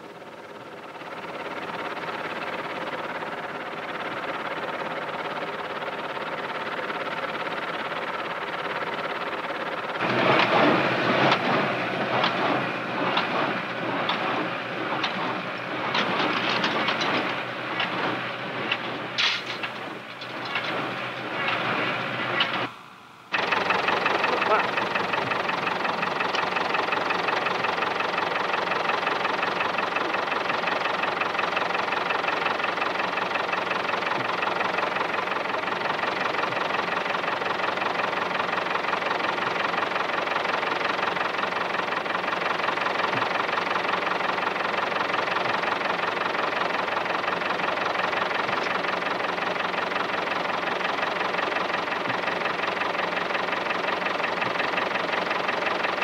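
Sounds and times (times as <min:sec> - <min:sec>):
tractor engine idling: 0:00.0 - 0:56.0.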